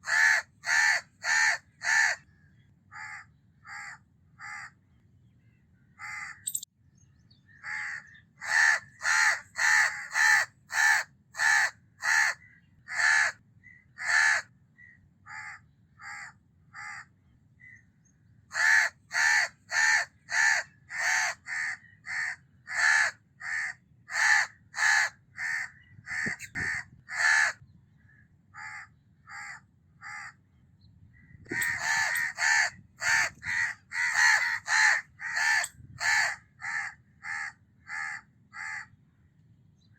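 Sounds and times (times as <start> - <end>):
crows cawing: 0.0 - 2.3, 2.9 - 4.8, 5.9 - 6.6, 7.5 - 13.4, 14.0 - 14.5, 15.3 - 17.2, 18.5 - 30.4, 31.5 - 38.9.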